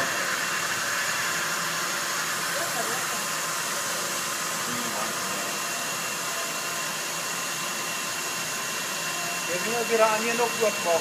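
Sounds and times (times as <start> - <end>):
vacuum pump rushing with whine: 0.0 - 11.0.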